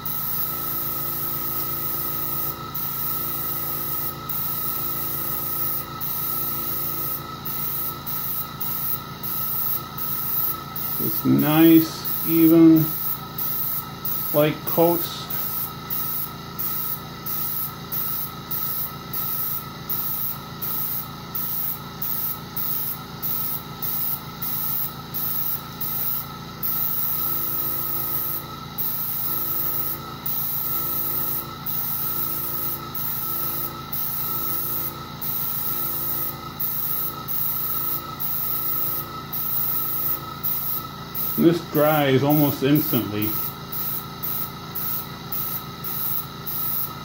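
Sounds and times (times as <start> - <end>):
airbrush hissing: 0.0 - 47.0
compressor humming and whining: 0.0 - 47.0.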